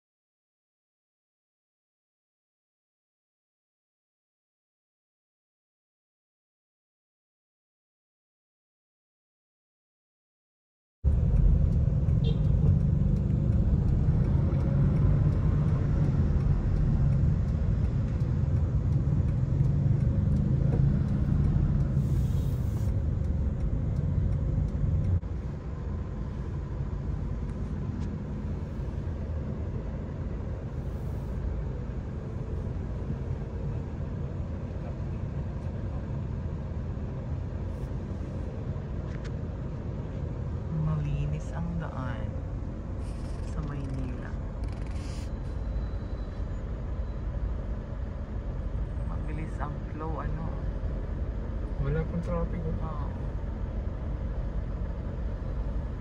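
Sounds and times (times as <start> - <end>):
car engine rumble: 11.1 - 56.0
road noise inside car: 11.1 - 56.0.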